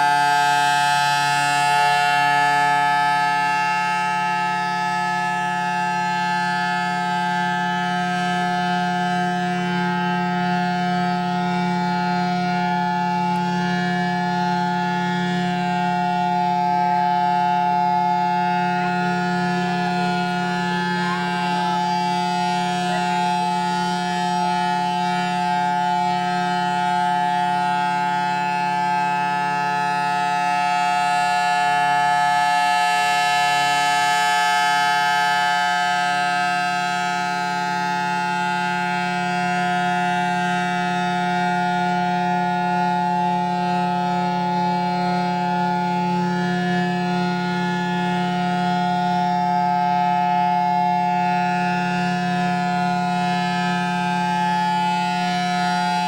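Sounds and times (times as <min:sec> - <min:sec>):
civil defense siren steady note: 0:00.0 - 0:56.0.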